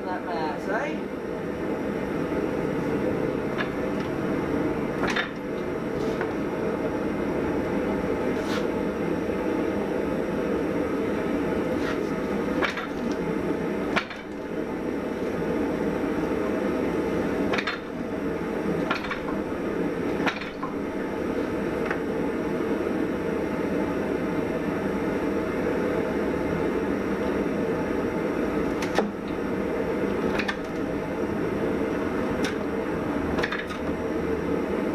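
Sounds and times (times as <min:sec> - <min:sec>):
loud steady machine noise: 0:00.0 - 0:34.9.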